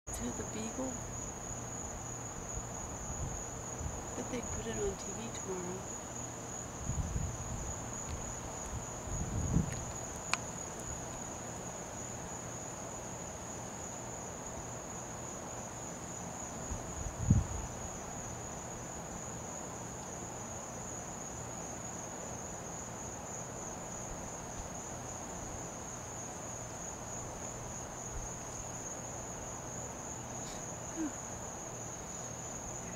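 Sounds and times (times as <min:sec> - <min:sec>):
crickets trilling: 0:00.1 - 0:32.9.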